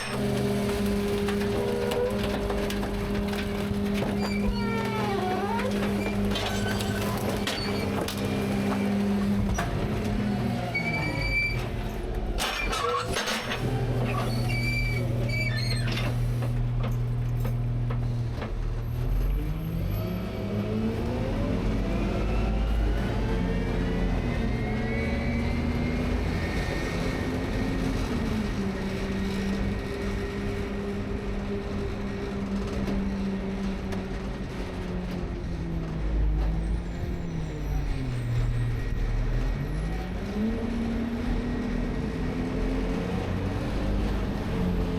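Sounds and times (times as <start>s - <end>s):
garbage truck diesel engine: 0.0s - 44.9s.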